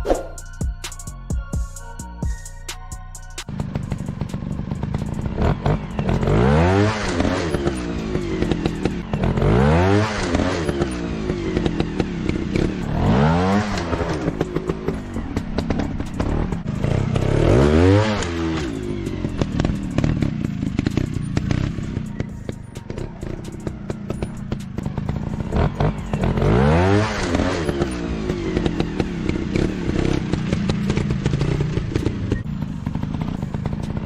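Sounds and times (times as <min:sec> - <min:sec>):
dirt bike engine revving: 0:03.5 - 0:34.0.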